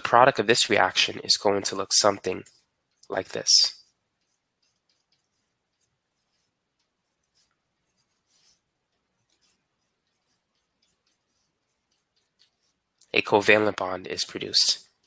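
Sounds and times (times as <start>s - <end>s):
writing scratches: 1.1s - 15.0s.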